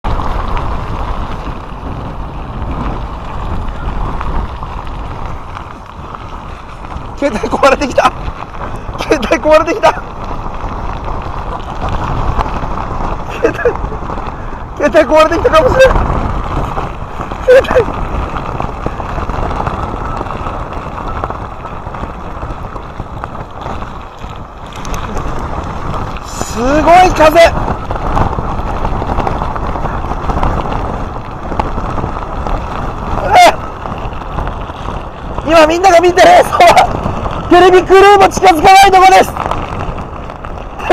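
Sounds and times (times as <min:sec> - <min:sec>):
strong wind buffeting microphone: 0:00.0 - 0:40.9.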